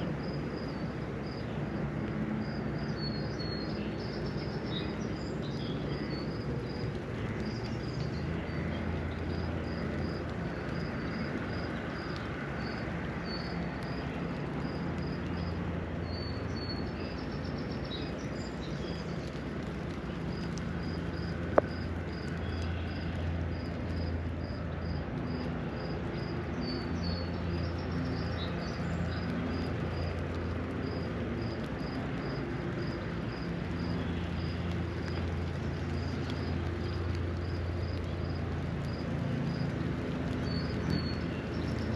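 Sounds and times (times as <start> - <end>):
distant traffic rumble: 0.0 - 41.9
light rain falling: 0.0 - 41.9.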